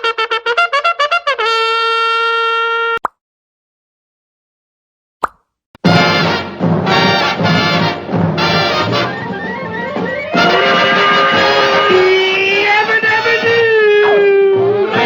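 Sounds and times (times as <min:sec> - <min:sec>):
cartoon brass band music: 0:00.0 - 0:03.0, 0:05.8 - 0:15.0.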